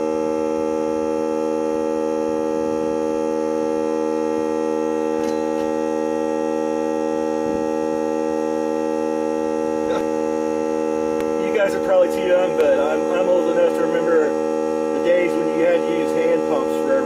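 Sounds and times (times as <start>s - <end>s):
air compressor humming: 0.0s - 17.0s.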